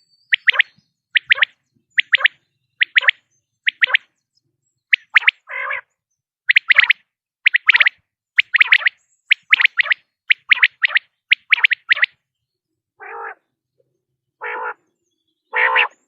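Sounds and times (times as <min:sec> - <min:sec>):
quail song: 0:00.0 - 0:16.0.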